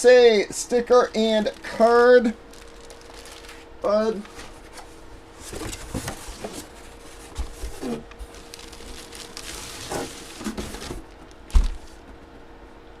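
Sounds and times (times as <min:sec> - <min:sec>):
packaging rustling and rubbing: 0:00.8 - 0:12.0.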